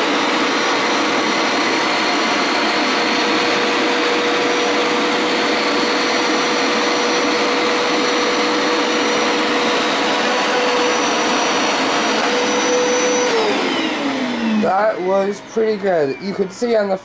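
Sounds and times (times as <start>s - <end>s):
carpet cleaner suction motor: 0.0s - 16.5s.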